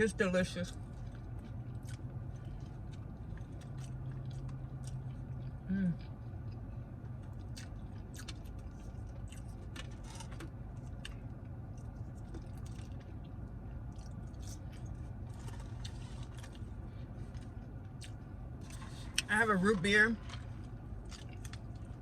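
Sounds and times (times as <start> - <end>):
person chewing food: 0.8 - 19.3, 20.2 - 22.0.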